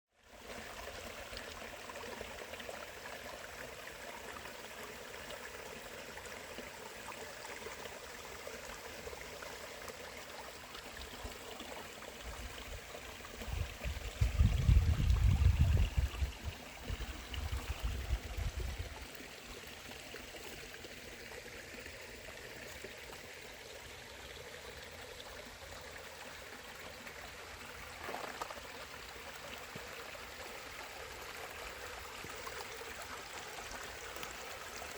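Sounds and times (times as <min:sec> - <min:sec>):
creek water rushing: 0:00.2 - 0:34.9.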